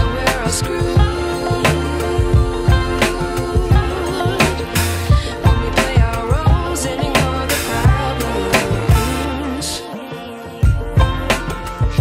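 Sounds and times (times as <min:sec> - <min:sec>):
steady drum beat: 0:00.0 - 0:09.4, 0:10.6 - 0:12.0.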